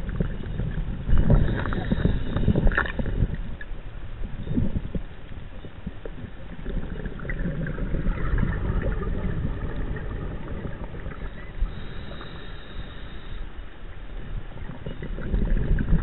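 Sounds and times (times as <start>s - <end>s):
bubbling and crackling: 0.0s - 16.0s
muffled underwater rumble: 0.0s - 16.0s.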